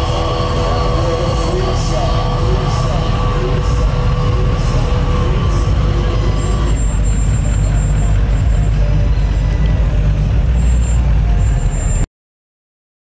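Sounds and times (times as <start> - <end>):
pickup truck engine rumbling past: 0.0 - 12.0.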